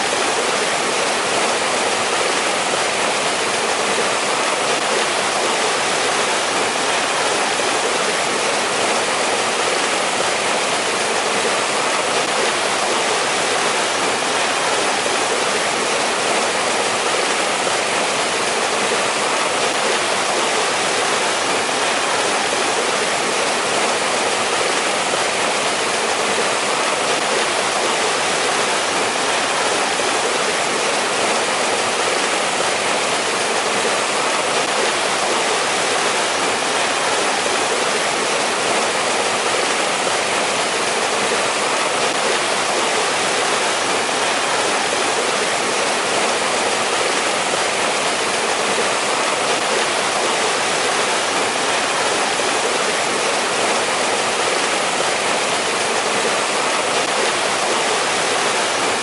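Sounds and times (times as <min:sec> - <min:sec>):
stream water rushing over rocks: 0:00.0 - 0:59.0.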